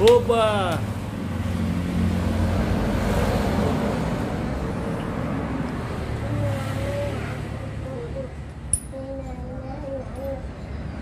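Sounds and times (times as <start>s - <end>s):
motor vehicle passing by: 0.0s - 11.0s.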